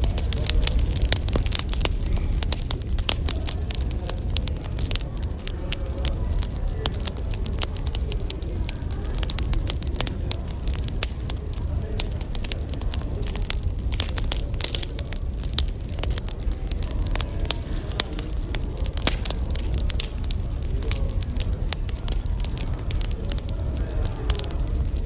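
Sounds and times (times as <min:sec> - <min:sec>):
low rumble: 0:00.0 - 0:25.0
wood fire crackling: 0:00.0 - 0:25.0.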